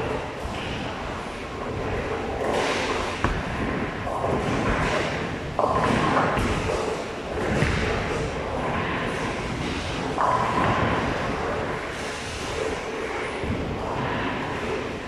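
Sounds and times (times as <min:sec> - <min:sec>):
bowling ball rolling: 0:00.0 - 0:14.9
bowling alley rumble: 0:00.0 - 0:15.0.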